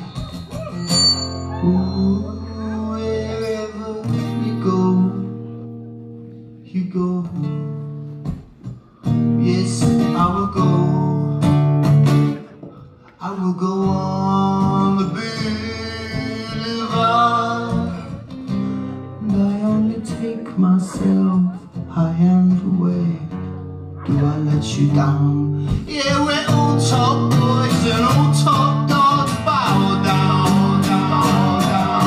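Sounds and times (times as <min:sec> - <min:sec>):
guitar chords and picked notes: 0:00.0 - 0:06.6, 0:07.2 - 0:13.1, 0:13.8 - 0:32.0.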